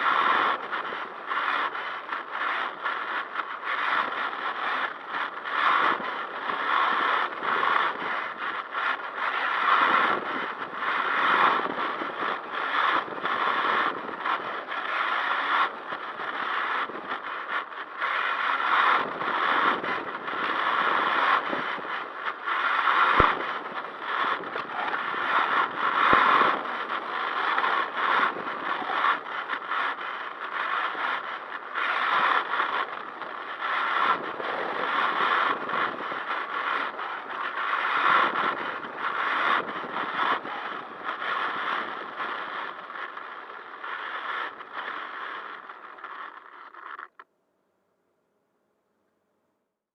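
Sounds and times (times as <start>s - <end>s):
rc car tyres and chassis rattling: 0.0s - 47.2s.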